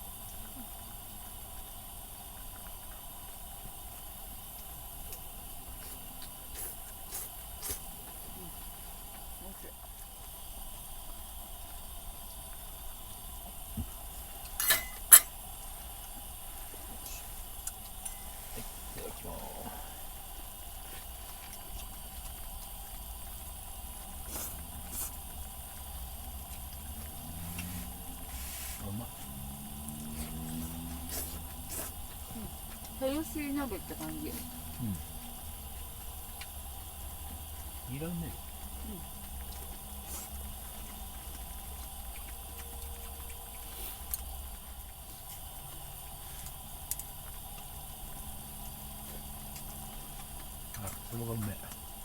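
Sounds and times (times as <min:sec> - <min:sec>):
pot simmering bubbling hiss: 0:00.0 - 0:52.0.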